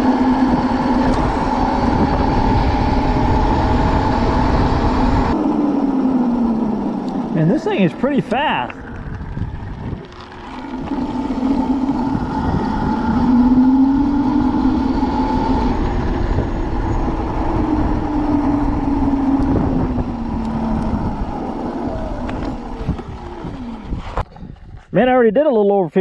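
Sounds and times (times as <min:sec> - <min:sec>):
electric motor whining: 0:00.0 - 0:24.3
wind rush: 0:00.0 - 0:25.0.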